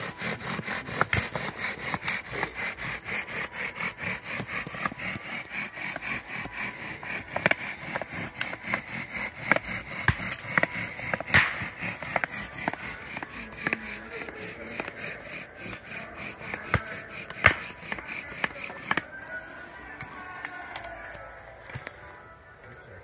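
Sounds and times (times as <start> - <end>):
wooden spindle squeaking in hearth board: 0.0 - 22.0.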